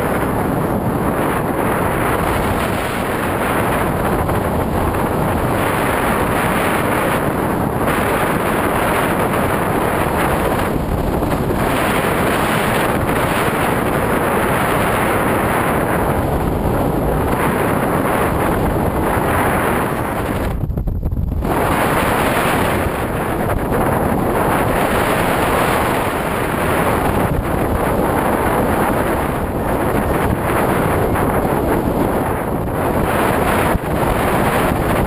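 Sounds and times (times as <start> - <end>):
wind rushing on microphone: 0.0 - 35.0.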